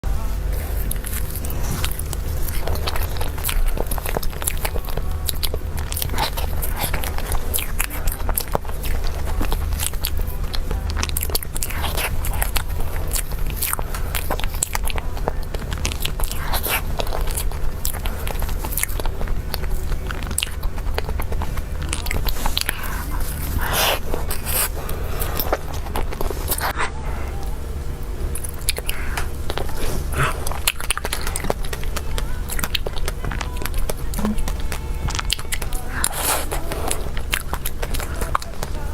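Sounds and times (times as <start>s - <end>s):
constant low hum: 0.0s - 38.9s
person chewing cake: 0.0s - 38.9s.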